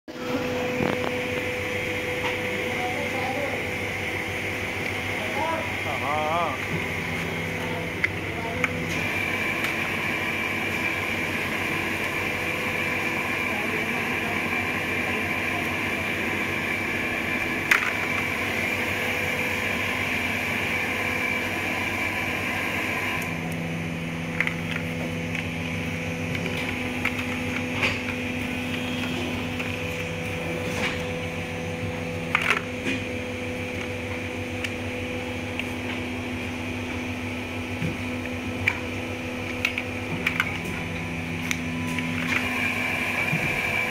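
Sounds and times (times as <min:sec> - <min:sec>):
steady mechanical hum: 0:00.1 - 0:43.9.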